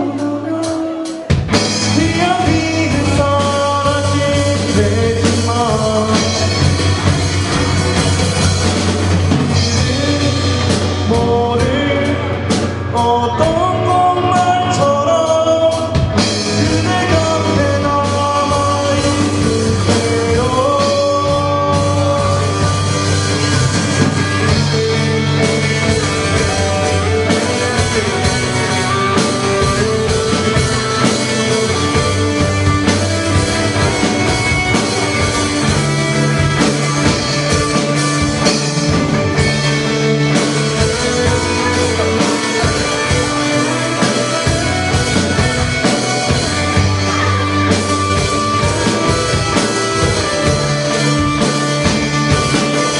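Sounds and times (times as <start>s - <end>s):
gliding melodic lead line: 0.0s - 52.9s
live rock band playing: 0.0s - 52.9s.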